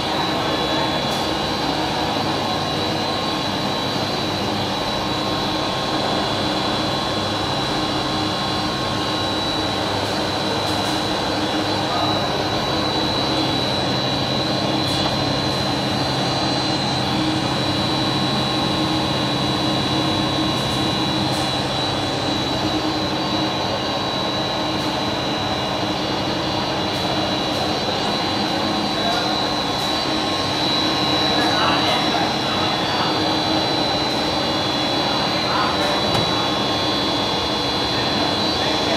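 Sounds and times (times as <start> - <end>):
high-pitched motor whine: 0.0 - 38.9
machinery drone: 0.0 - 38.9.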